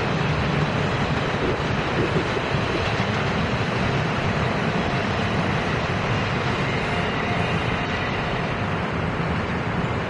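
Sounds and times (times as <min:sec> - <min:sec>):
electric train running past: 0:00.0 - 0:10.0.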